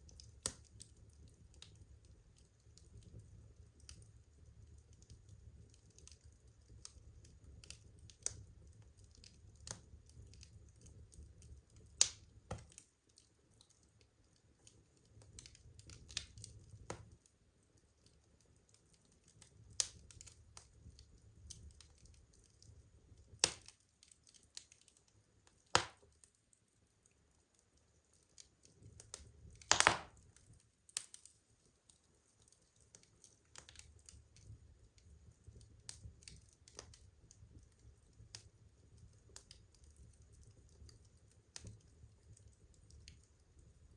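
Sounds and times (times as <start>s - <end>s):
low rumble of flames: 0.0s - 26.6s, 27.3s - 31.2s, 32.0s - 43.9s
wood fire crackling: 0.0s - 43.9s.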